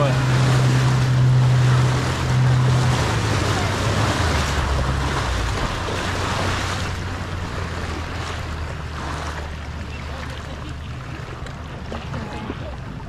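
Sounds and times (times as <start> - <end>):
motorboat engine humming: 0.0 - 13.0
water rushing and splashing: 0.0 - 13.0.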